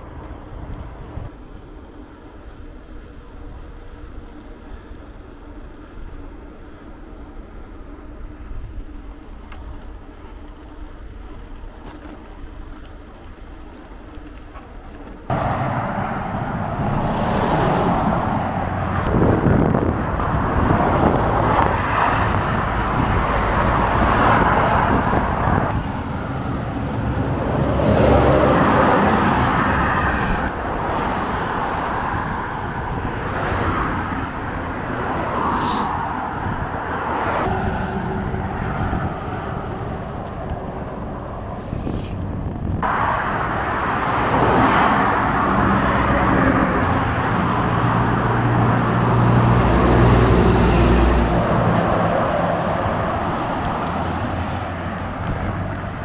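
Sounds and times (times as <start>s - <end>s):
cars passing on busy road: 0.0s - 56.0s.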